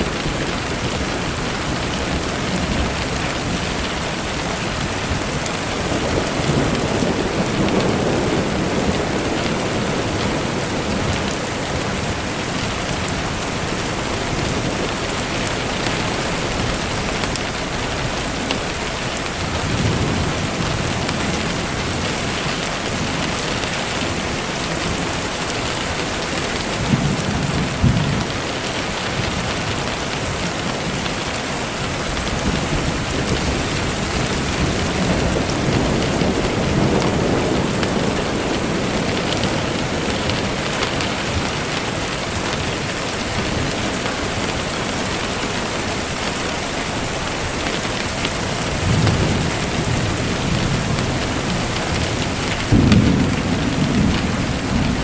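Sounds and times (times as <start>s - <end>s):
steady rain: 0.0s - 55.0s
thunder rumbling: 0.0s - 55.0s.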